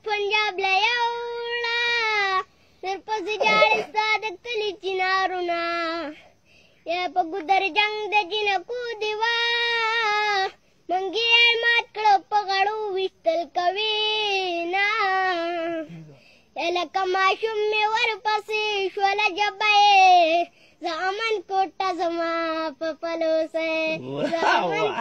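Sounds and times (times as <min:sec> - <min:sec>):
boy singing unaccompanied: 0:00.0 - 0:25.0.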